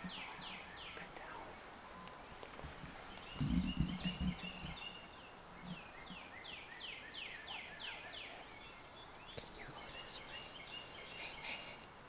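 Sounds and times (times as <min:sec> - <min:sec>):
birds chirping softly: 0:00.0 - 0:12.0
songbird singing: 0:00.0 - 0:12.0.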